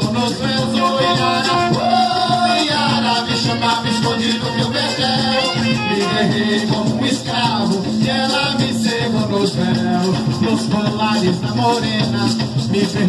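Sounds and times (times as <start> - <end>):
live band music: 0.0 - 13.0
maracas shaking: 0.0 - 13.0.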